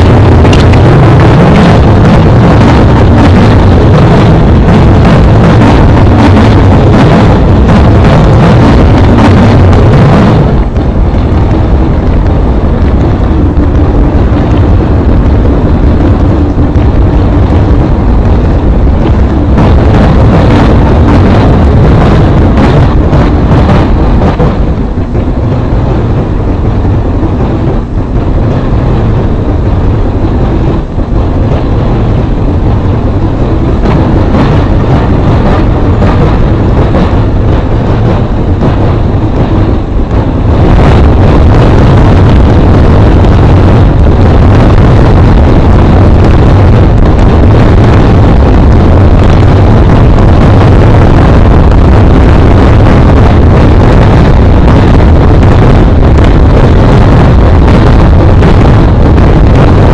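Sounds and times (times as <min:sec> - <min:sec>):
harsh distorted noise: 0:00.0 - 0:59.9.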